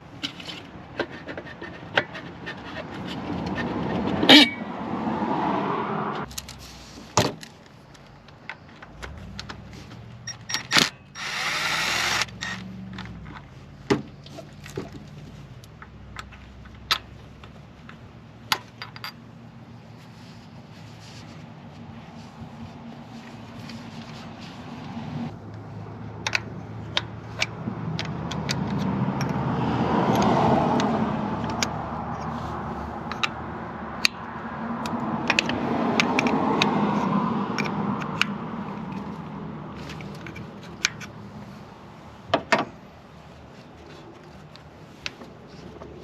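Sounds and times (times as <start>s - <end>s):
vehicles passing by: 0.0s - 46.0s.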